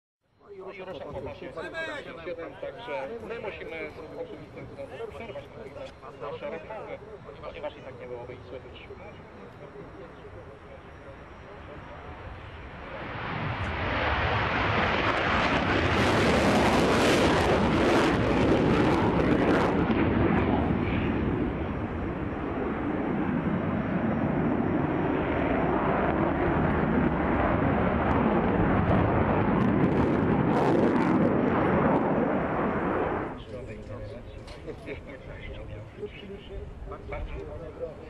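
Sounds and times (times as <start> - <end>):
jet engine roar: 0.6 - 38.0.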